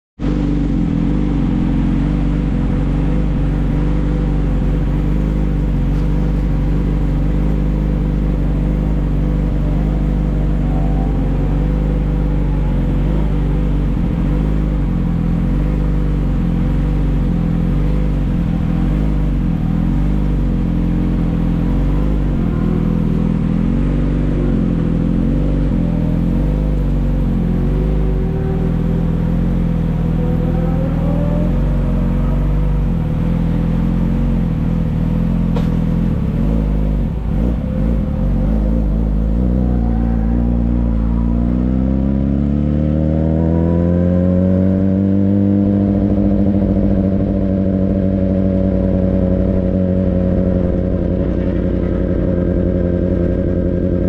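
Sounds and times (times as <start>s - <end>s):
motorcycle engine rumbling: 0.2s - 54.0s.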